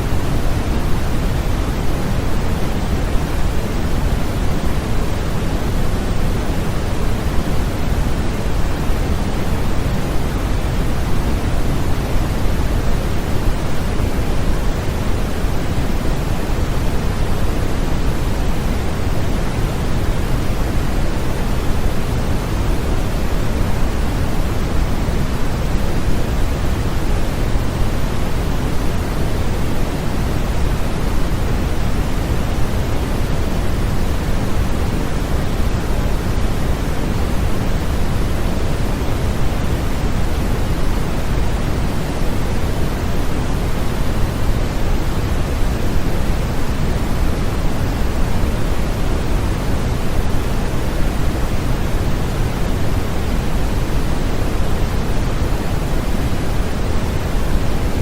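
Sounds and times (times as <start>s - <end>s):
steady low hiss: 0.0s - 58.0s.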